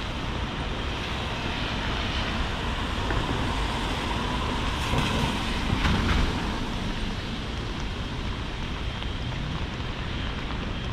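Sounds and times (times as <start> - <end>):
rain hiss: 0.0 - 10.9
traffic on wet streets: 0.0 - 10.9.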